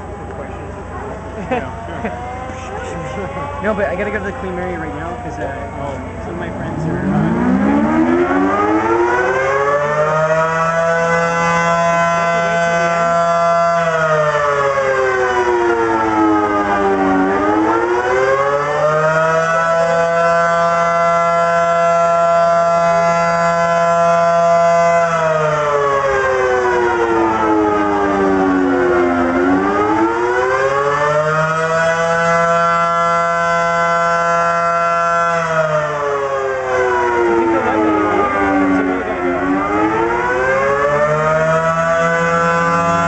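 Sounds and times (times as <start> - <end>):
air-raid siren wailing: 0.0 - 43.0.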